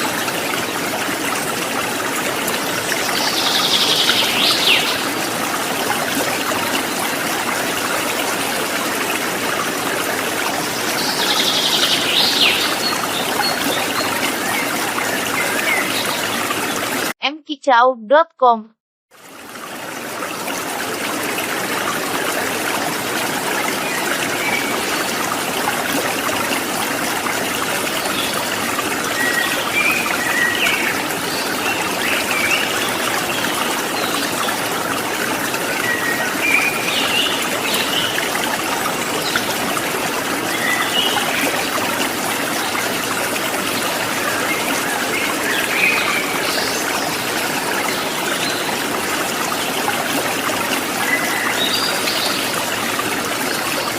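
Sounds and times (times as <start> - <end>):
stream water trickling: 0.0 - 17.2, 19.1 - 53.9.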